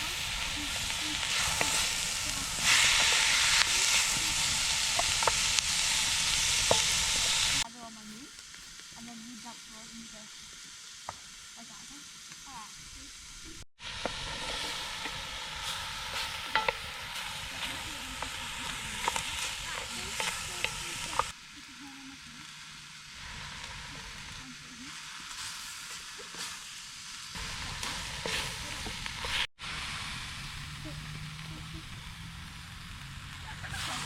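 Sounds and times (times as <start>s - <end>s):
fire crackles and pops: 0.0s - 34.0s
sizzling hiss: 0.0s - 34.0s.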